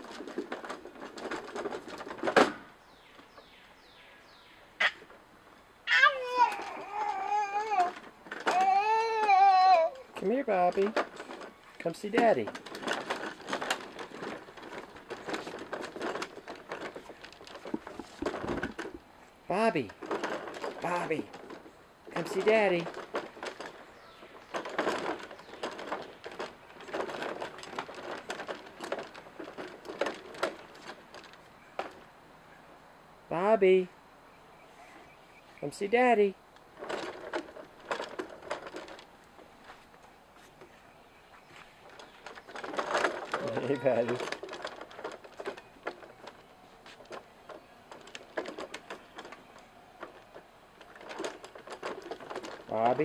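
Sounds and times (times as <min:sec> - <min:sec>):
plastic wheels rolling on wooden boards: 0:00.0 - 0:05.3, 0:05.9 - 0:32.2, 0:35.8 - 0:53.0
wheels clicking over board gaps: 0:00.0 - 0:32.2, 0:35.4 - 0:53.0.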